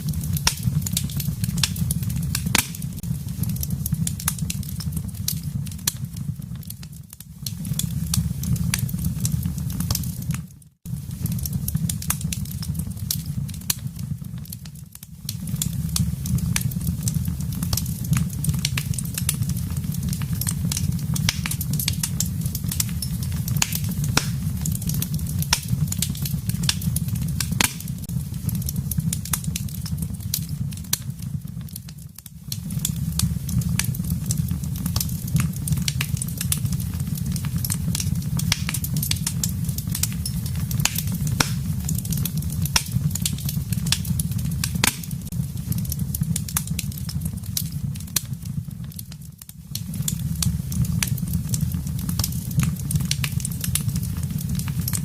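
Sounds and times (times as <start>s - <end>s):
fire low rumble: 0.0s - 55.0s
wood fire crackling: 0.0s - 55.0s.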